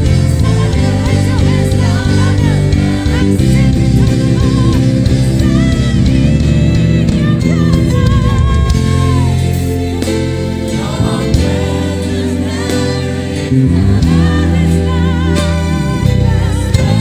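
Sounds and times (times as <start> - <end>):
choir singing: 0.0 - 6.4, 7.9 - 17.0
band with sustained bass: 0.0 - 17.0.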